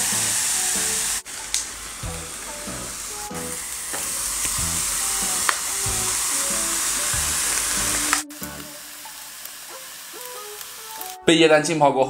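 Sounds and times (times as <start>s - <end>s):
liquid nitrogen sizzling hiss: 0.0s - 11.3s.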